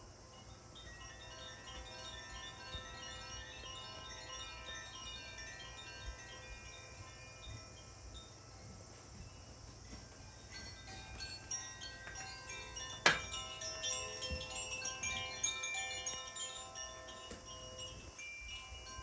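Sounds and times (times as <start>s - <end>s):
chimes ringing: 0.3s - 19.0s.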